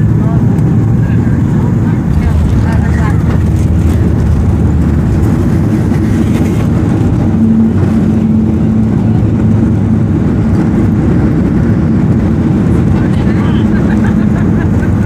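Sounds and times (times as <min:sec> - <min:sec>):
jet engines roaring: 0:00.0 - 0:15.0
steady hum: 0:00.0 - 0:15.0
airflow: 0:00.7 - 0:15.0.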